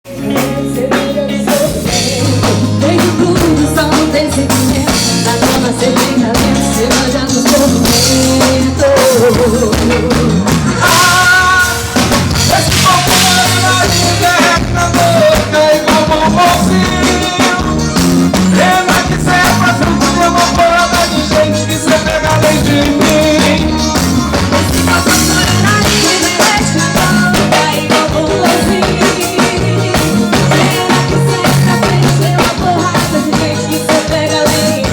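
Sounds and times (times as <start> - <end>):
live band playing: 0.0 - 34.9
drum kit beat: 0.1 - 34.9.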